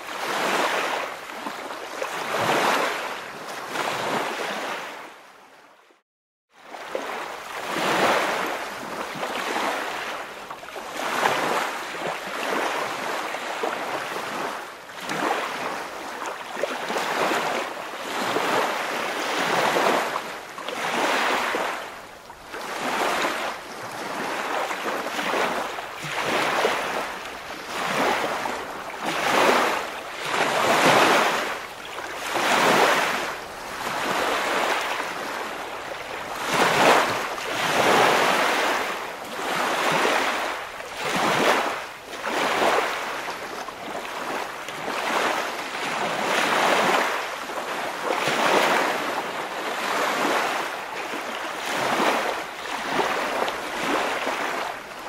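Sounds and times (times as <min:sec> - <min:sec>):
ocean waves washing in: 0:06.6 - 0:55.0.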